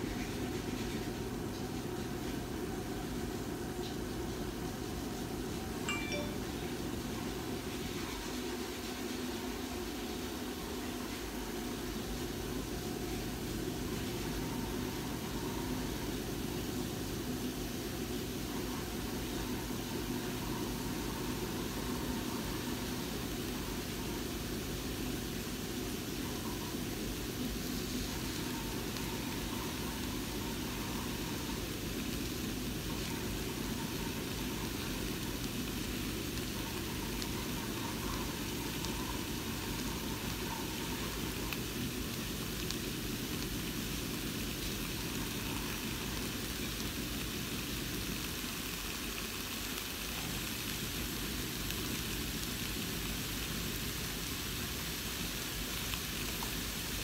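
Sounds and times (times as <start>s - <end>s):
faint hum: 0.0s - 57.0s
food sizzling in a pot: 0.0s - 57.0s.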